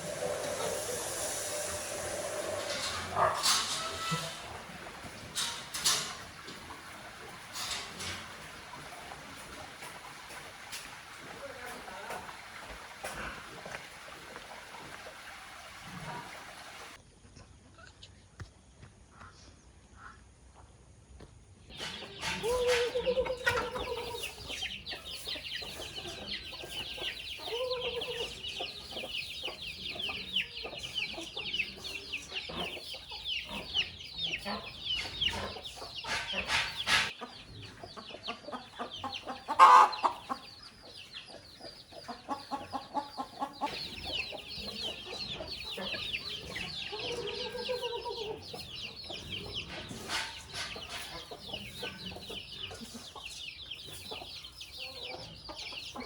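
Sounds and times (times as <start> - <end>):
chicks peeping: 0.0 - 15.3, 21.7 - 56.0
chickens clucking: 0.0 - 17.0, 21.7 - 56.0.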